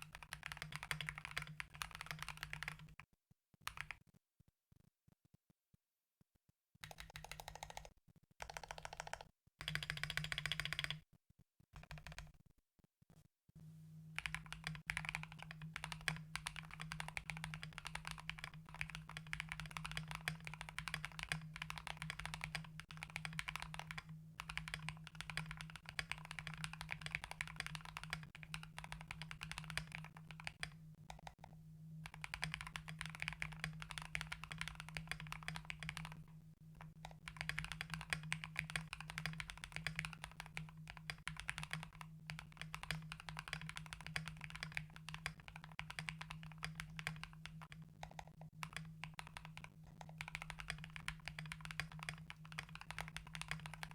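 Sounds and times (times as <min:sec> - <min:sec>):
mechanical keyboard typing: 0:00.0 - 0:03.0, 0:03.7 - 0:04.0, 0:06.8 - 0:11.0, 0:11.8 - 0:12.4, 0:14.2 - 0:53.9.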